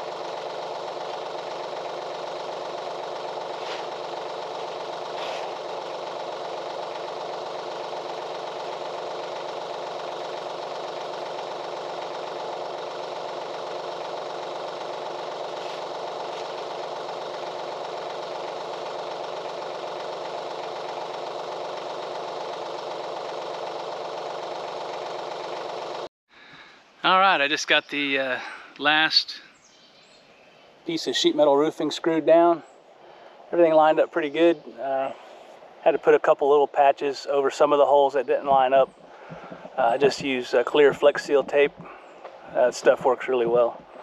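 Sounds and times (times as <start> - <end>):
tractor engine idling: 0.0 - 29.8, 30.7 - 44.0.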